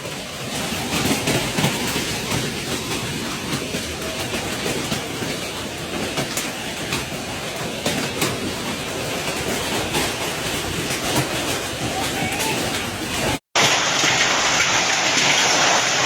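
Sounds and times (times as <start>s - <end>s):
hailstones clattering on hard surfaces: 0.0s - 16.0s.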